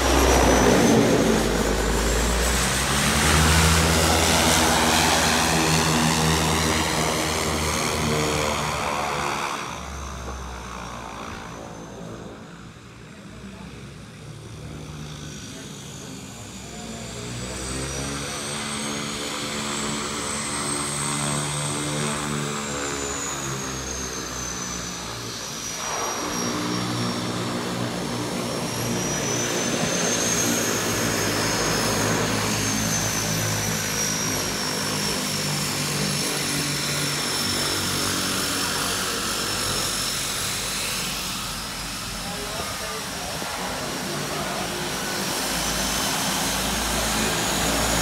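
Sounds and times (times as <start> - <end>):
high turbine whine: 0.0 - 48.0
propellers droning: 0.0 - 48.0
turboprop engines running: 0.0 - 48.0.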